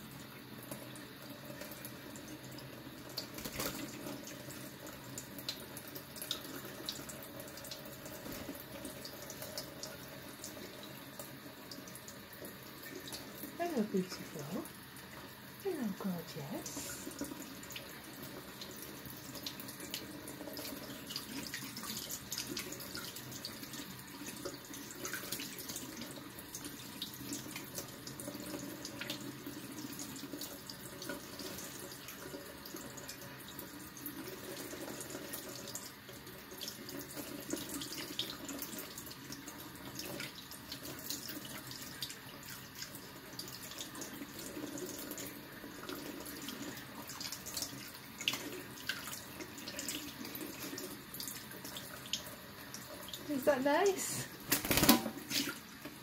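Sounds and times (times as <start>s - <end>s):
tap water splashing into sink: 3.0s - 13.5s, 16.7s - 53.3s, 54.3s - 56.0s.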